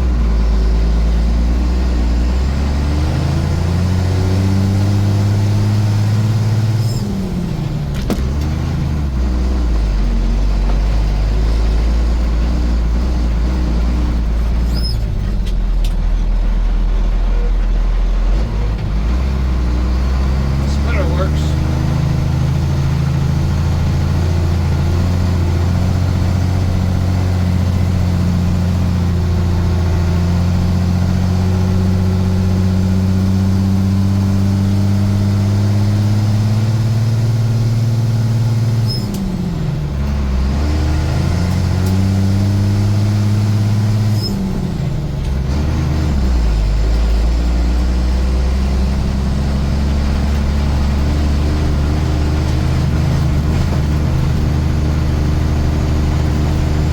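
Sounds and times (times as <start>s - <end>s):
vehicle engine pulling under load: 0.0s - 56.9s.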